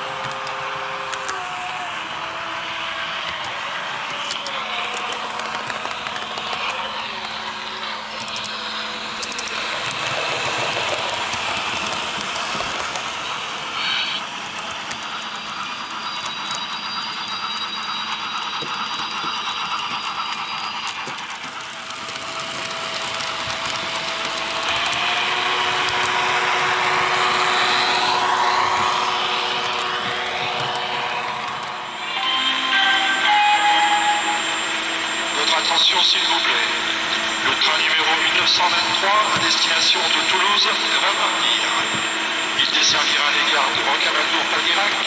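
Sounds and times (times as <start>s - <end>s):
diesel engine drone from small speaker: 0.0s - 45.0s.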